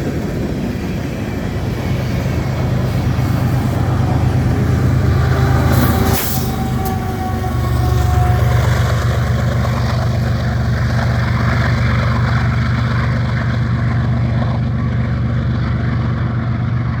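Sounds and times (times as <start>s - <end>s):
train passing with low rumble: 0.0s - 17.0s.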